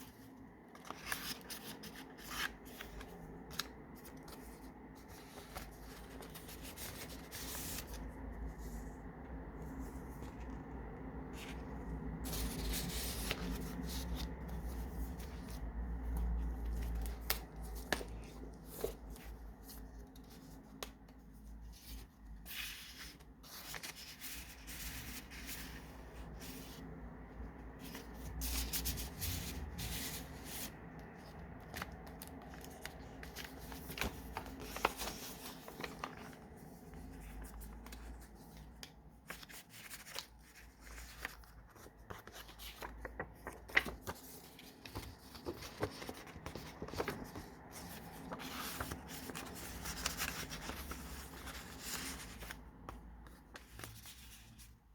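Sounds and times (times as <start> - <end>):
paper pages rustling: 0.0 - 54.9.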